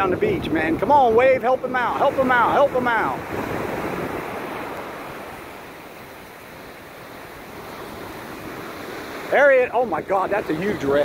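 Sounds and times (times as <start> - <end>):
ocean waves on sandy beach: 0.0 - 11.0.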